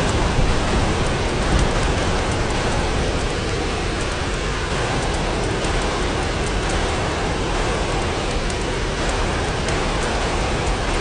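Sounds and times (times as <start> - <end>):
rain pattering on glass: 0.0 - 11.0.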